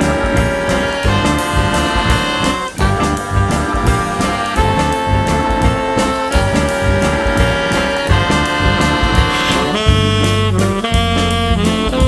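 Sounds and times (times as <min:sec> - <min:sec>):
jazz music with saxophone: 0:00.0 - 0:12.0
steady bass: 0:00.0 - 0:12.0.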